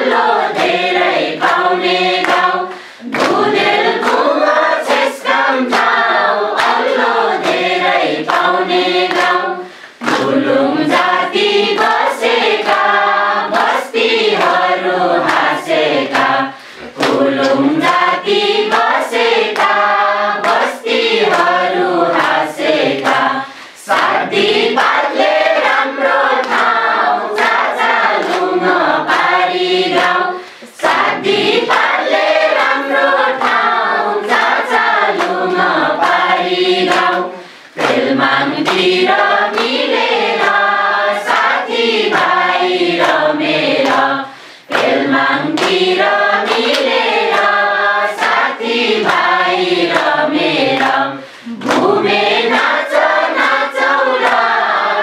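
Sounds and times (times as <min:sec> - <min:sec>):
group singing: 0:00.0 - 0:55.0
people clapping in time: 0:00.0 - 0:55.0.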